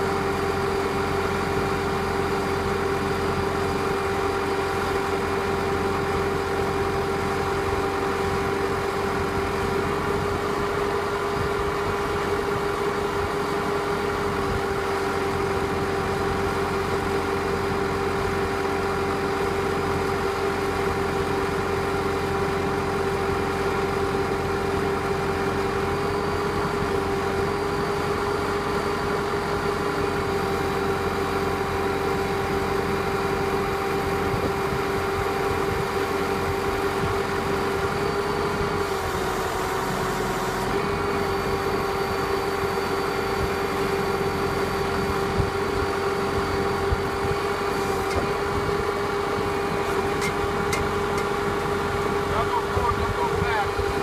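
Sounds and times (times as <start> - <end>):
constant whine: 0.0 - 54.0
diesel engine running: 0.0 - 54.0
hydraulic rock drill drilling: 0.0 - 54.0.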